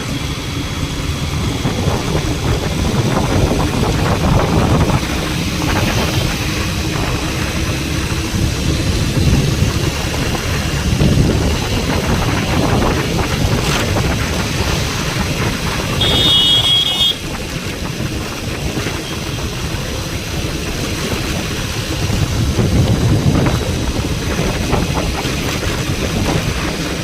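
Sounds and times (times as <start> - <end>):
vehicle engine and road rumble: 0.0 - 27.0
wind buffeting microphone: 0.0 - 27.0.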